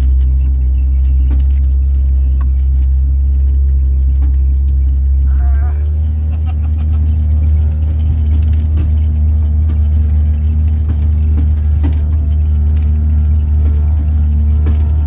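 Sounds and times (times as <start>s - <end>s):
shack rattling and knocking: 0.0s - 15.0s
towing engine drone: 0.0s - 15.0s.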